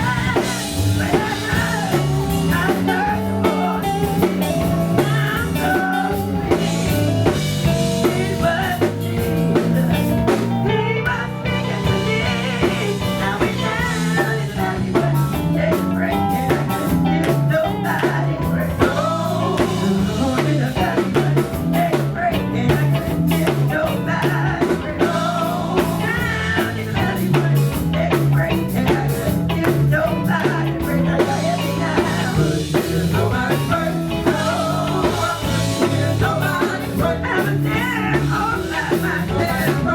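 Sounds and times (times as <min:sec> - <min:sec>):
person singing: 0:00.0 - 0:07.0, 0:07.6 - 0:39.9
drum kit: 0:00.0 - 0:39.9
electric bass line: 0:00.0 - 0:39.9
guitar: 0:00.0 - 0:39.9.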